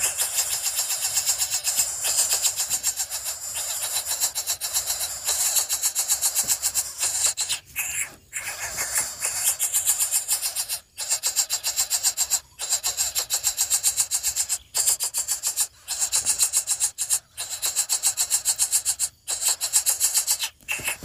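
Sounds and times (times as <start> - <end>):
nestlings begging rapid rasping: 0.0 - 21.0.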